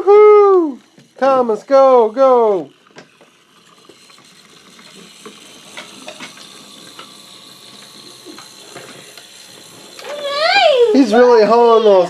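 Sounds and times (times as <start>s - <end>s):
toy train motor whir: 0.0s - 12.0s.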